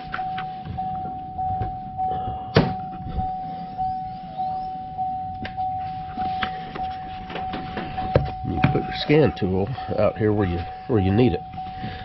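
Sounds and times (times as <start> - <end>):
car warning chime dinging: 0.0 - 12.0.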